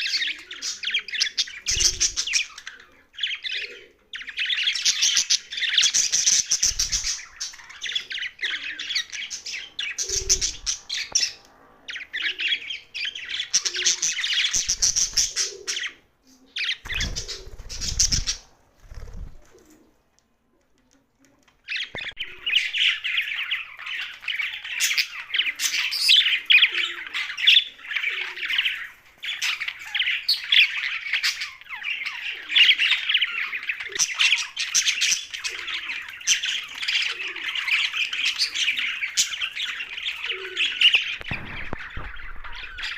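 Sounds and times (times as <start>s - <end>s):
budgerigars chattering and squawking: 0.0s - 19.3s, 21.6s - 42.9s.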